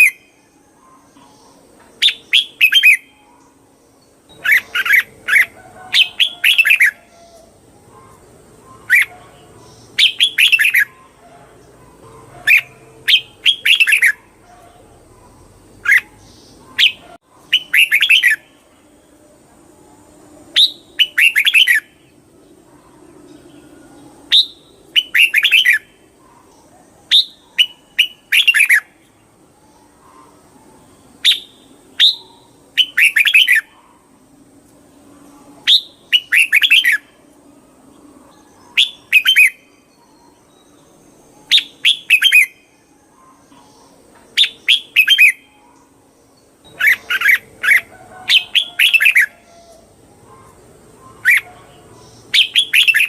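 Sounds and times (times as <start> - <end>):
bird singing chirpy phrases: 0.0 - 34.3, 34.9 - 53.0.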